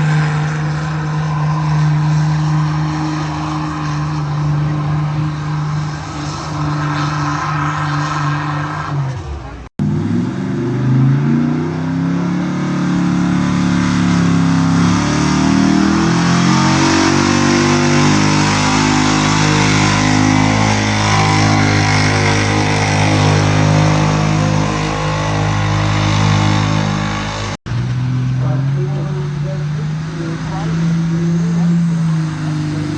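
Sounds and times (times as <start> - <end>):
truck engine under load: 0.0 - 32.9.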